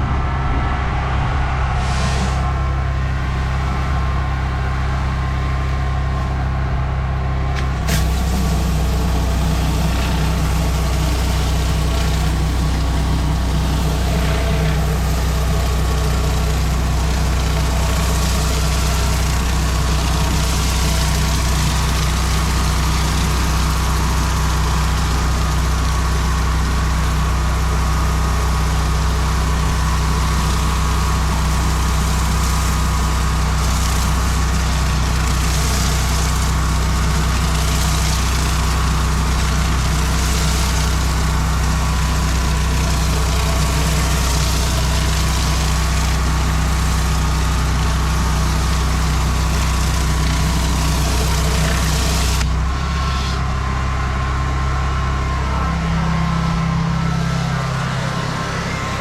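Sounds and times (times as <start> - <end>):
pressure washer engine running: 1.4 - 59.0.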